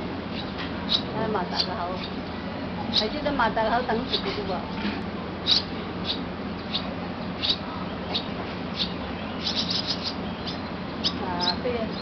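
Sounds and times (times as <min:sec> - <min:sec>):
steady low hum: 0:00.0 - 0:12.0
nestlings chirping: 0:00.1 - 0:12.0.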